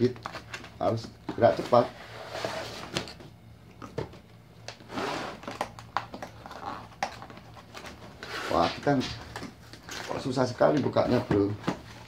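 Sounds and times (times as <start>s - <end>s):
cardboard rustling and scraping: 0.1s - 3.2s, 4.8s - 12.0s.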